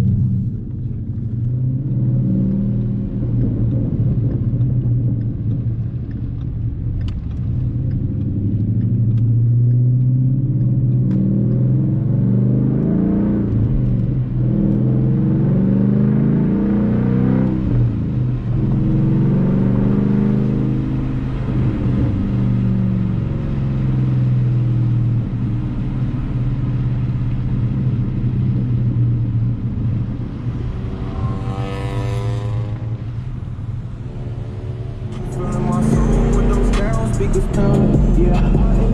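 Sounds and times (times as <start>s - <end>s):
car engine revving through gears: 0.0s - 28.5s, 29.7s - 38.9s.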